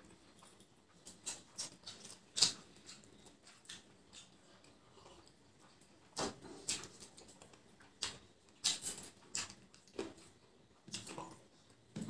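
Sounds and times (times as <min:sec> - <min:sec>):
mouth smacking while chewing: 0:00.1 - 0:11.8.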